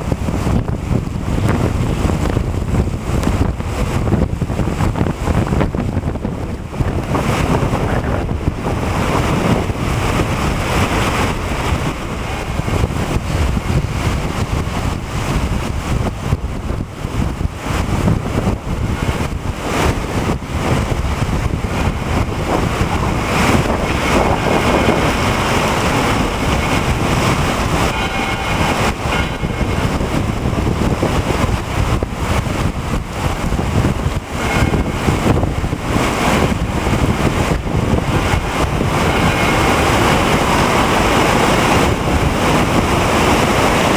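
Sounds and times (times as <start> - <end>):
heavy rain: 0.0 - 43.9
wind buffeting microphone: 0.0 - 43.9.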